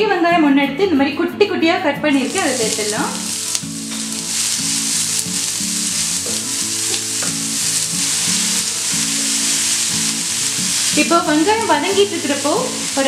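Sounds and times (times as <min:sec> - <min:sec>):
onions sizzling in hot oil: 0:02.1 - 0:13.0.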